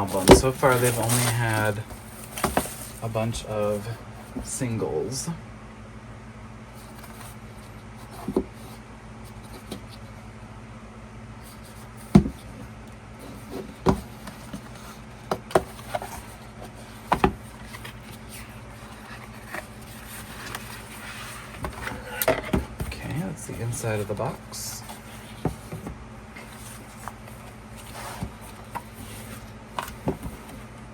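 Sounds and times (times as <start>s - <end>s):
album box being handled: 0.0s - 4.6s, 6.8s - 10.2s, 11.5s - 30.9s
steady low hum: 0.0s - 30.9s.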